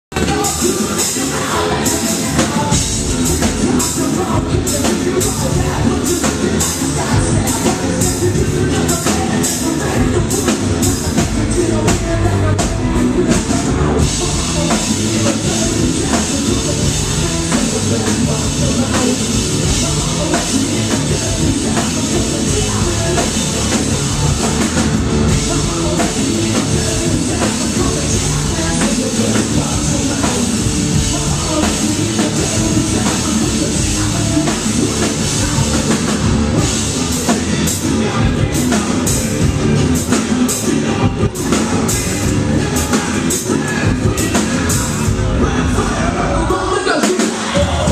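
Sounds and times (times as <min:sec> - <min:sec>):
drum kit: 0:00.0 - 0:47.9
electric guitars: 0:00.1 - 0:47.9
person singing: 0:00.1 - 0:47.9.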